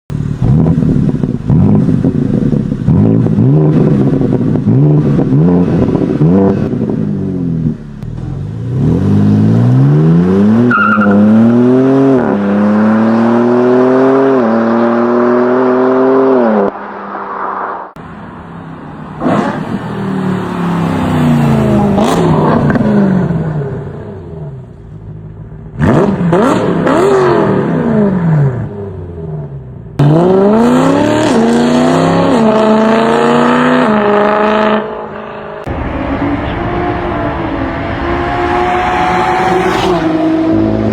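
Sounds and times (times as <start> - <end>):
car engines revving and accelerating: 0.1 - 40.9.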